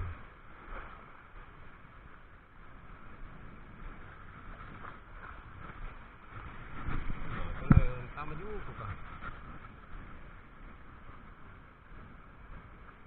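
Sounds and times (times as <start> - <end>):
fluctuating low rumble: 0.0 - 13.0.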